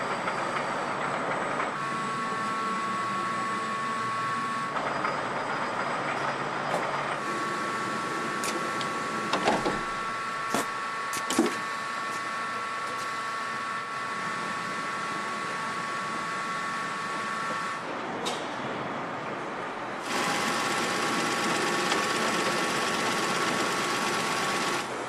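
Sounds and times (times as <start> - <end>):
machine whine and hum: 0.0 - 25.0.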